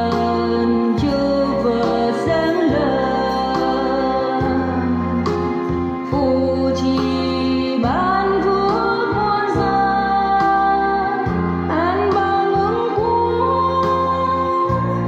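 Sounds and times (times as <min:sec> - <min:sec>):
sustained melody over bass notes: 0:00.0 - 0:15.0.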